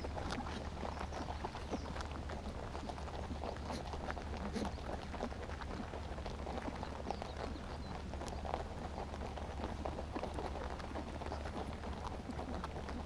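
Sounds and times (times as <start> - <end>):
rabbits nibbling and chewing: 0.0 - 13.0.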